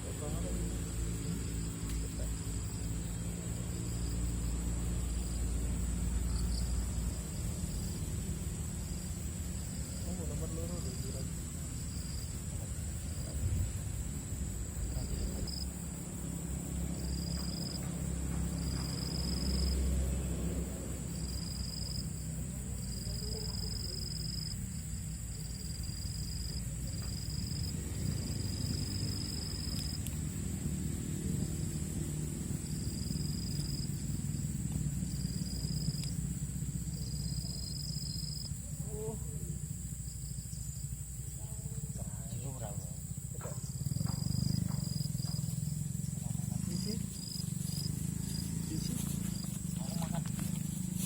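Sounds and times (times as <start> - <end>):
insect buzzing calls: 0.0 - 51.0
insect high-pitched drone: 0.0 - 51.0
low steady rumble: 0.0 - 51.0.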